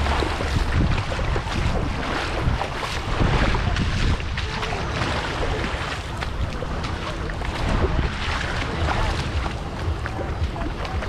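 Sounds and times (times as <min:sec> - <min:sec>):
sea wash: 0:00.0 - 0:11.0
wind buffeting microphone: 0:00.0 - 0:11.0.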